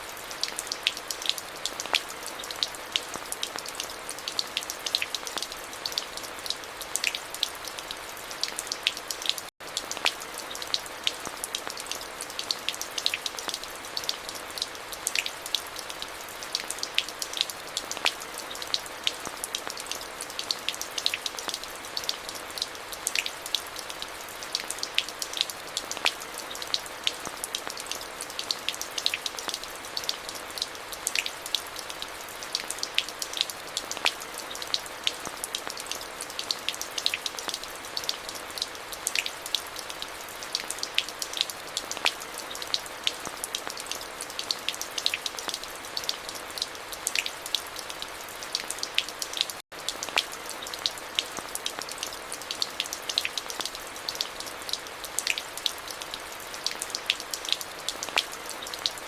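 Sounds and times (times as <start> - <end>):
raindrops hitting close by: 0.0 - 59.0.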